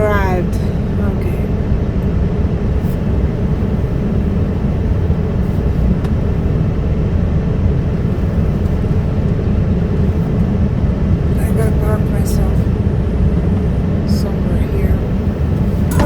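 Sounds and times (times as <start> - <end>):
dump truck diesel engine running: 0.0 - 16.0.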